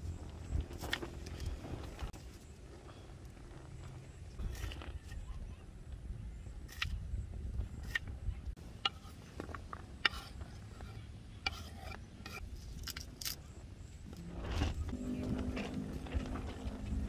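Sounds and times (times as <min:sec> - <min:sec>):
steady low rumble: 0:00.0 - 0:11.5, 0:13.4 - 0:17.0.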